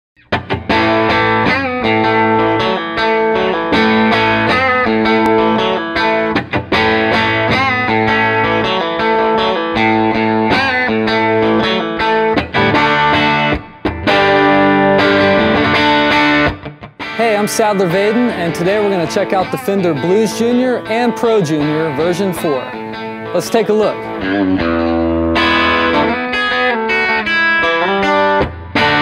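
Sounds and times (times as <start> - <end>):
electric guitar chords and riffs: 0.2 - 29.0.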